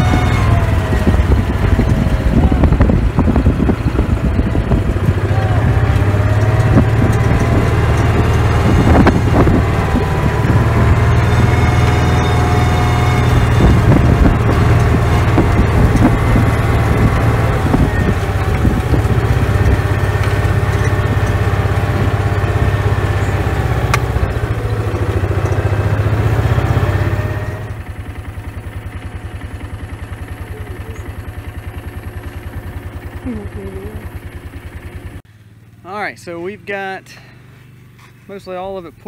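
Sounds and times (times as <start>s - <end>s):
utility vehicle engine running: 0.0s - 39.0s.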